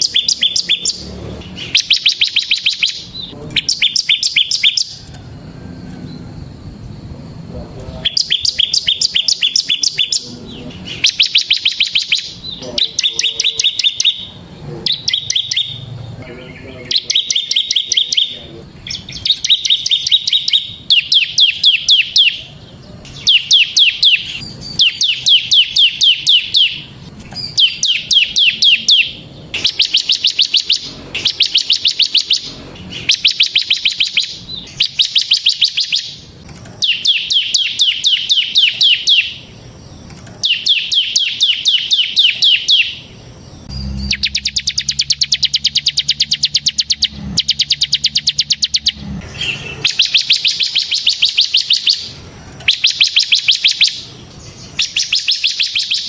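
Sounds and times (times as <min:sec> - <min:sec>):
bird singing rattling trills: 0:00.0 - 0:56.0.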